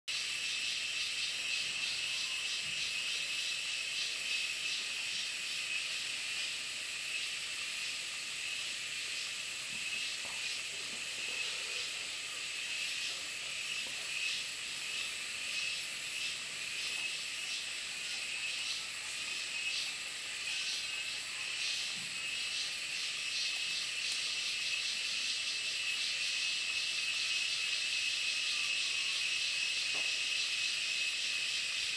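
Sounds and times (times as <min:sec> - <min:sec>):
forest insects chorus pulsing: 0:00.1 - 0:31.9.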